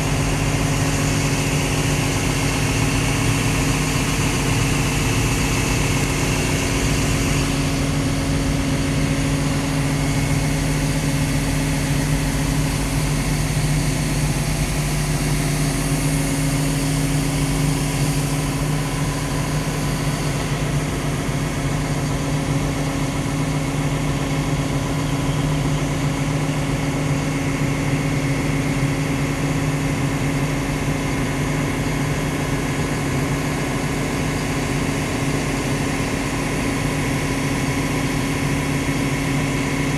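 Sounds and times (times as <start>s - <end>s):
excavator diesel engine idling: 0.0s - 39.9s.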